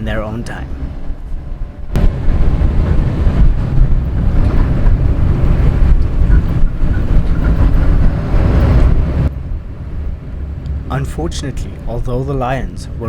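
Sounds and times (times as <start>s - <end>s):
vehicle engine rumble: 0.0s - 13.0s
wind buffeting microphone: 0.0s - 13.0s.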